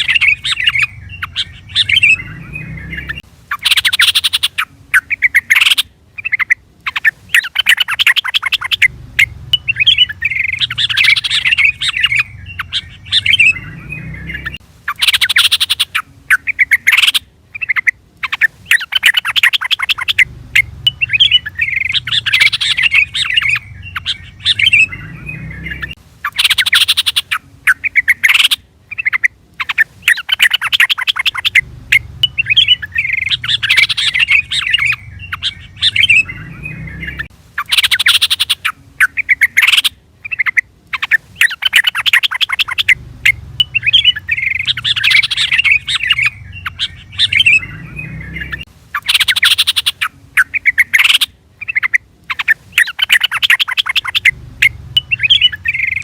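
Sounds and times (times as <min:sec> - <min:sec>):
bulbul chattering calls: 0:00.0 - 0:56.0.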